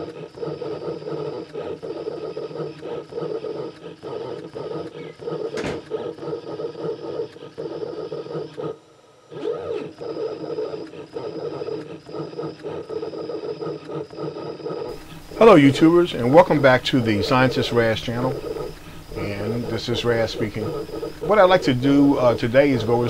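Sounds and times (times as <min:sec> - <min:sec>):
stepper motors whining: 0:00.0 - 0:23.0.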